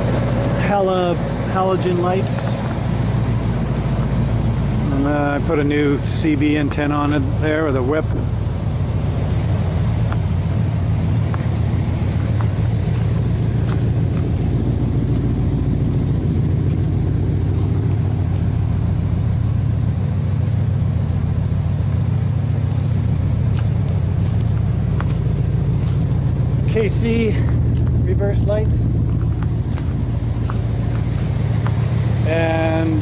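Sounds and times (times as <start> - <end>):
engine idling with low exhaust rumble: 0.0 - 33.0.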